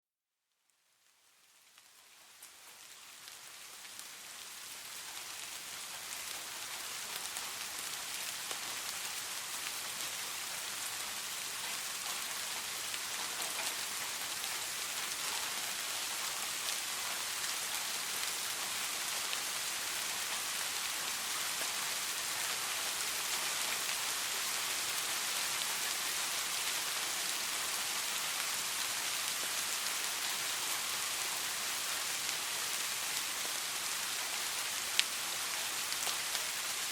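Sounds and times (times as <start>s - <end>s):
steady rain falling: 0.5s - 36.9s.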